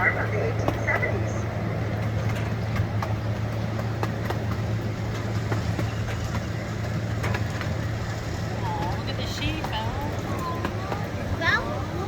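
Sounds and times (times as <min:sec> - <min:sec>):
ride train humming: 0:00.0 - 0:12.0.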